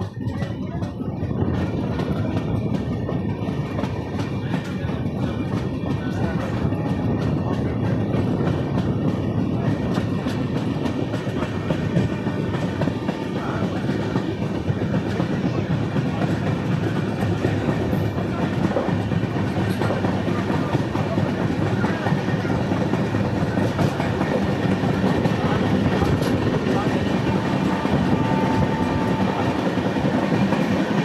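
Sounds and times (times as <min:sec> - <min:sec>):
train rumble inside coach: 0:00.0 - 0:31.0
wheels clattering on rails: 0:00.0 - 0:31.0.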